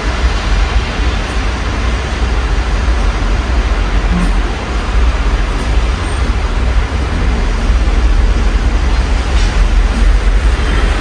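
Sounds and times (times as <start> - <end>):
city traffic rumble: 0.0 - 11.0
steady rain: 0.0 - 11.0.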